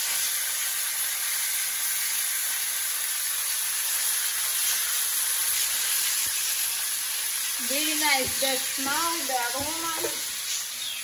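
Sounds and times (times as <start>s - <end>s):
steaks sizzling in butter: 0.0s - 11.0s.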